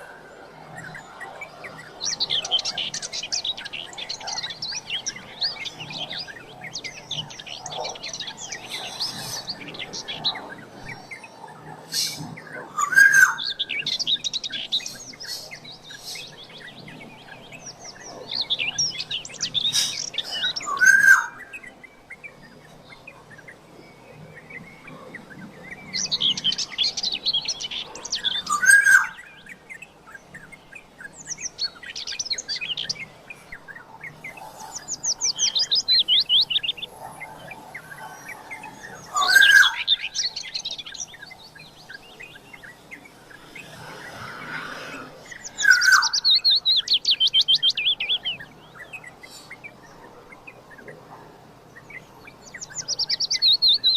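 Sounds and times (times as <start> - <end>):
bird chattering song: 0.0 - 53.9.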